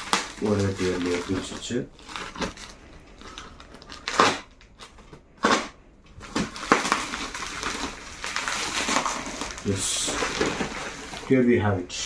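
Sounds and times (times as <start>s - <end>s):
paper ripping: 0.0s - 11.4s
paper crinkling and rustling: 0.0s - 11.6s.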